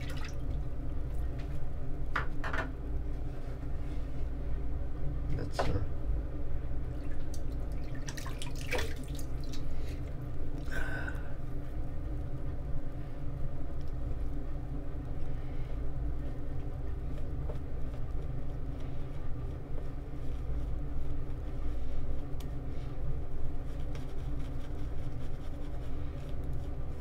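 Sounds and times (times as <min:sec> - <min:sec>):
faint hum: 0:00.0 - 0:27.0
low mechanical rumble: 0:00.0 - 0:27.0.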